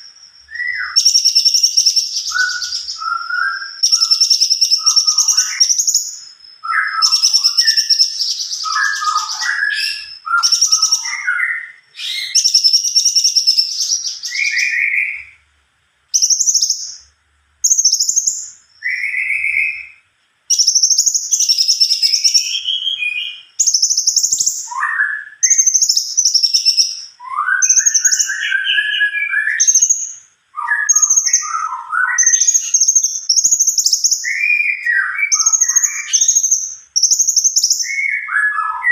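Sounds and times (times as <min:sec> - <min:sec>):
songbird trilling and whistling: 0:00.0 - 0:15.4, 0:16.1 - 0:38.9.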